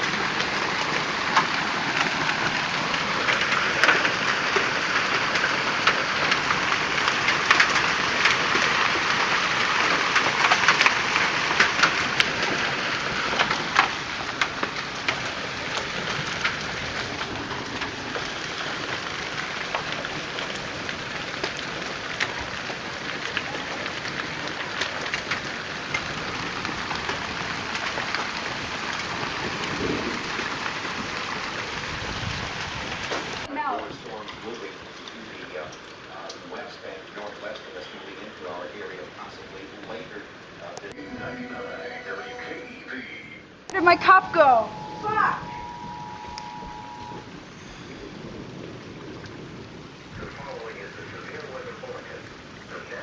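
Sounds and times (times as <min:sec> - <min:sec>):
hail and heavy rain pelting: 0:00.0 - 0:53.0.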